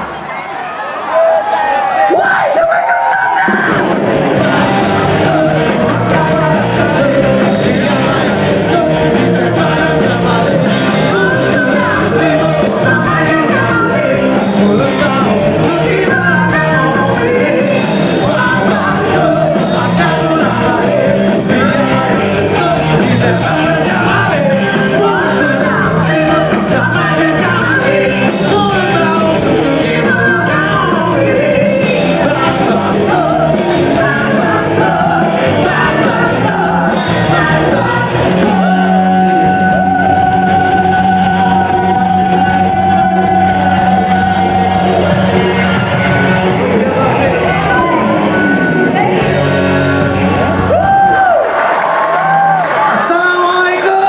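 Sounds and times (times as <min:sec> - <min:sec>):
live rock band with singer: 0:00.0 - 0:54.0.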